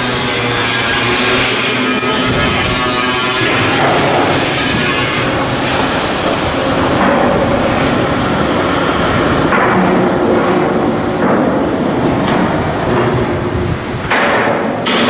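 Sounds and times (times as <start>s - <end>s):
industrial noise: 0.0s - 15.0s.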